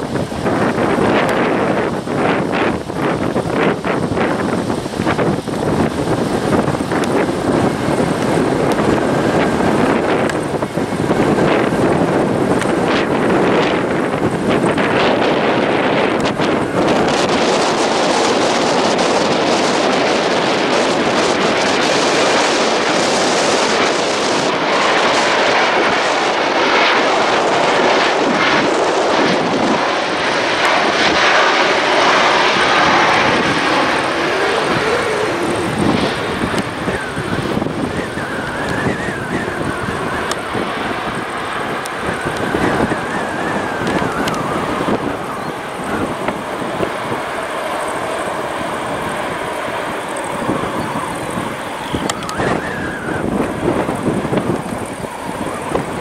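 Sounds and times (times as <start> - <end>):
high engine whine: 0.0 - 56.0
jet engines roaring: 0.0 - 56.0
wind buffeting microphone: 0.0 - 56.0.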